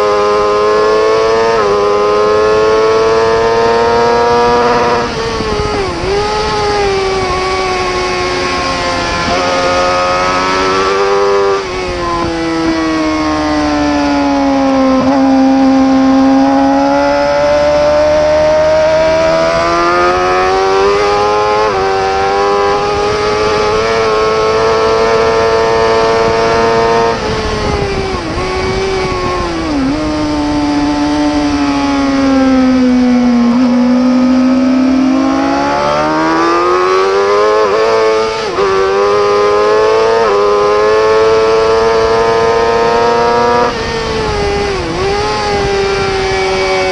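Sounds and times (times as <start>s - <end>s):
motorcycle engine revving and shifting: 0.0s - 46.9s.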